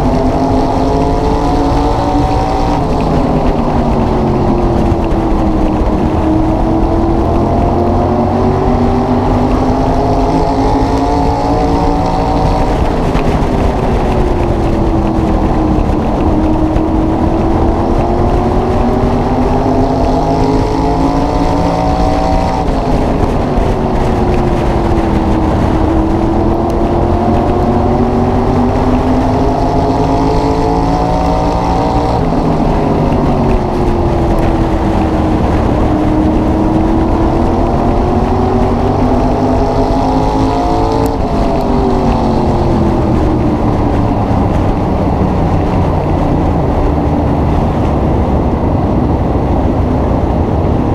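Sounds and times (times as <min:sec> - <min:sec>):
race car engine at speed: 0:00.0 - 0:50.9.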